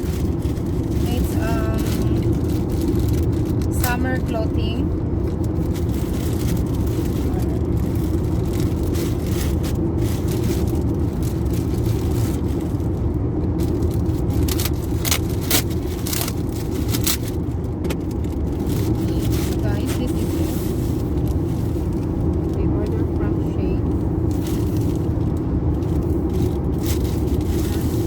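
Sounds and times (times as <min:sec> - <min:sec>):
rustles and clicks: 0:00.0 - 0:04.4, 0:05.2 - 0:23.0, 0:23.9 - 0:28.0
car cabin rumble: 0:00.0 - 0:28.0.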